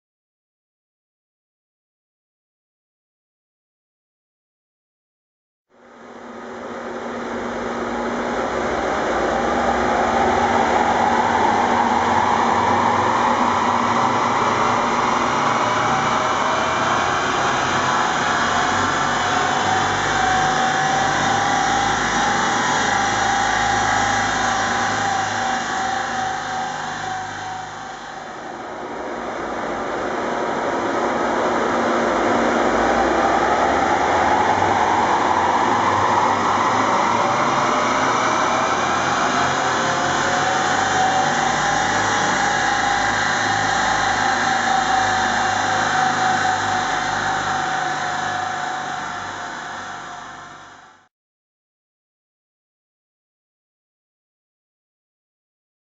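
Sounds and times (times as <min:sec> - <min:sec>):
turbodiesel engine under load: 0:05.8 - 0:51.1.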